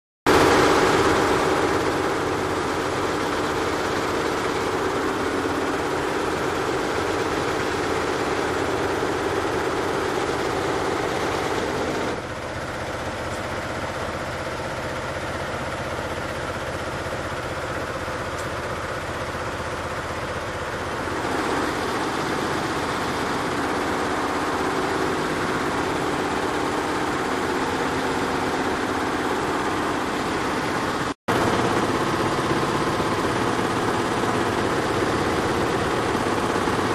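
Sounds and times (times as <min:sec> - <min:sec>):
embroidery machine running: 0:00.3 - 0:36.9.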